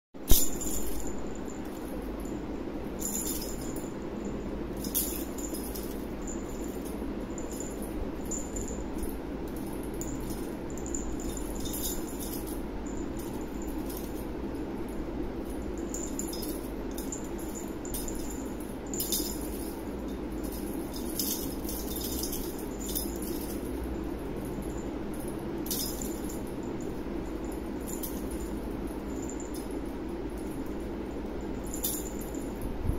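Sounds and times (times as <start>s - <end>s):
low hum: 0.2s - 32.9s
small bell jingling: 0.3s - 32.9s.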